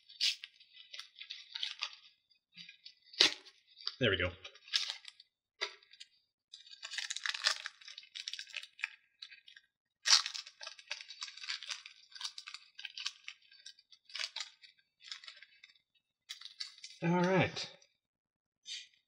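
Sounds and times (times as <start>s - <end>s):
foil wrapper crinkling: 0.0s - 17.0s.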